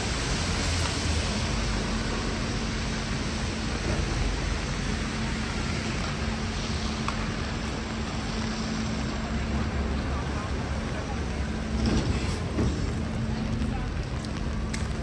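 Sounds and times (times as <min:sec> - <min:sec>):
rain hiss: 0:00.0 - 0:15.0
traffic on wet street: 0:00.0 - 0:15.0.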